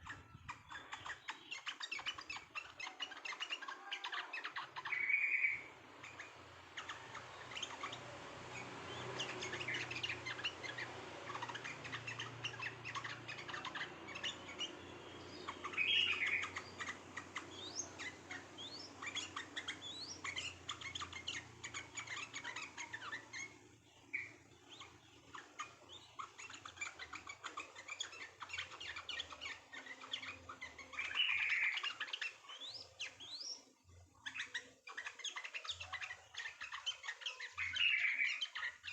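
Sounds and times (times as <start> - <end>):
faint low hum: 0.0 - 38.9
songbirds chirping: 0.0 - 38.9.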